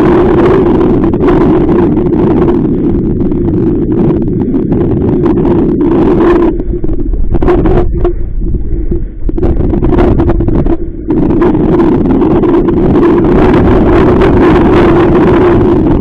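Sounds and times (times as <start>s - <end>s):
steady low hum: 0.0s - 16.0s
wind buffeting microphone: 0.0s - 16.0s.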